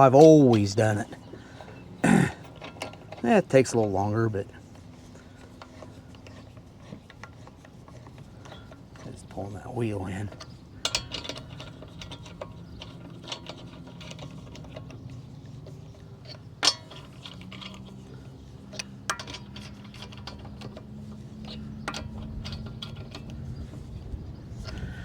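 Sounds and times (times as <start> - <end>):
hand ratchet clicking: 1.6 - 25.0.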